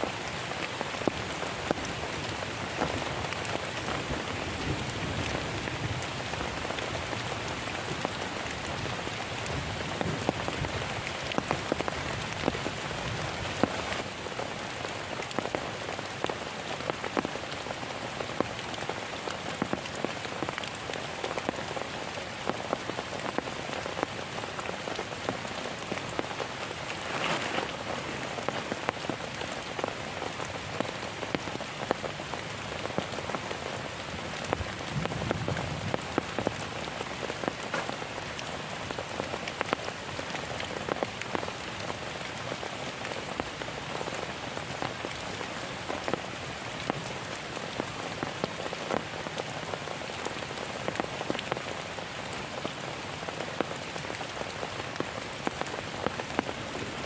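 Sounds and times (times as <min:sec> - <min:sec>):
heavy rain falling: 0:00.0 - 0:57.0
raindrops ticking close by: 0:00.0 - 0:57.0.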